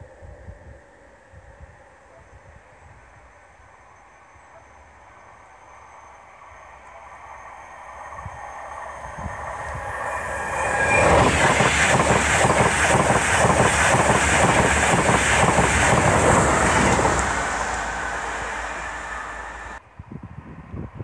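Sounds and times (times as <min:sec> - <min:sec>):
train passing at speed: 0:00.0 - 0:20.7.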